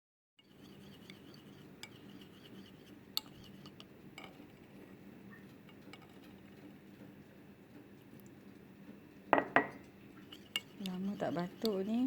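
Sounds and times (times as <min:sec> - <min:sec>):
low steady hum: 0:00.5 - 0:12.0.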